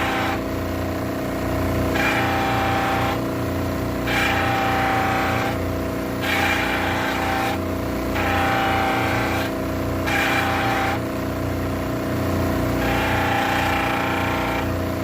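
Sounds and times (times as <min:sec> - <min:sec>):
electric polishing machine running: 0:00.0 - 0:15.0
rasping of hub being buffed: 0:00.0 - 0:15.0.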